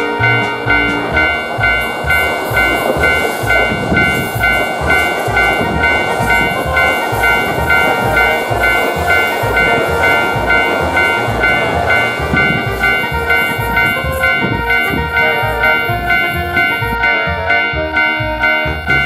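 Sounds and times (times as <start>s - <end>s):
background music with low beat: 0.0s - 19.0s
electric train rushing past: 0.0s - 19.0s
level-crossing warning bell ringing: 0.0s - 19.0s.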